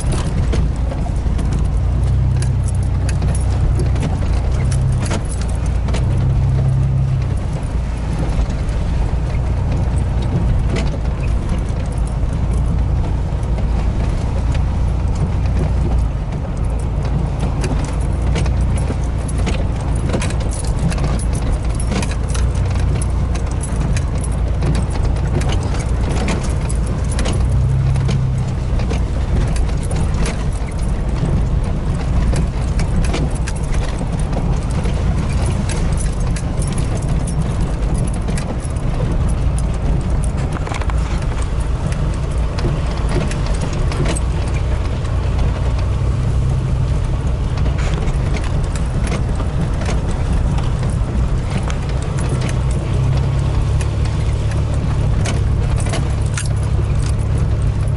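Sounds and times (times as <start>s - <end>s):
cab clicks and rattles: 0.0s - 57.9s
vehicle engine running: 0.0s - 57.9s.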